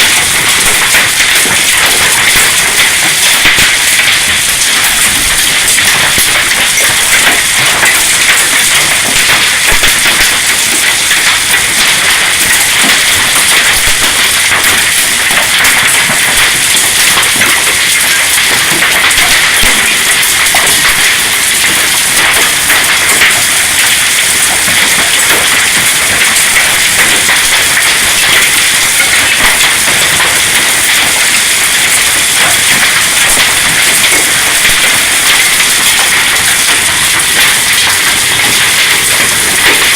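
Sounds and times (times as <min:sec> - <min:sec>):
hail and heavy rain: 0:00.0 - 0:39.9.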